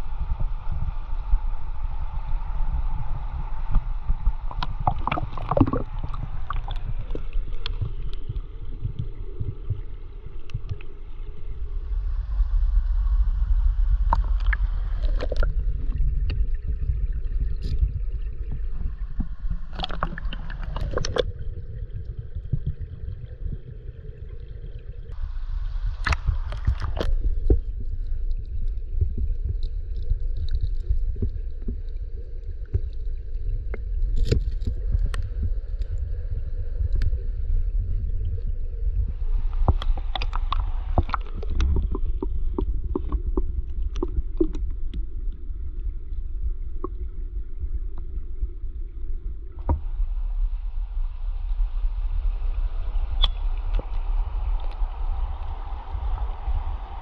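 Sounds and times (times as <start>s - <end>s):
crackling and bubbling: 0.0s - 57.0s
muffled underwater flowing water: 0.0s - 57.0s.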